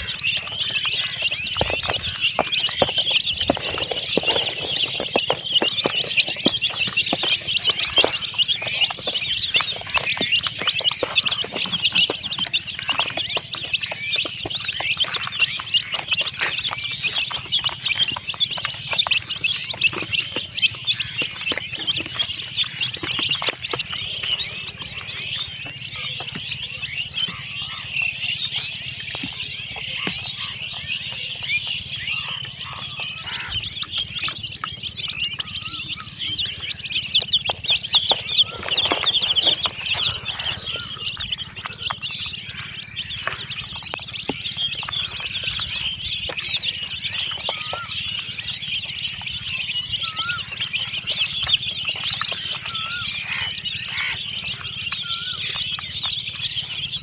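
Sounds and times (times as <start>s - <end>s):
baby chickens peeping: 0.0s - 57.0s.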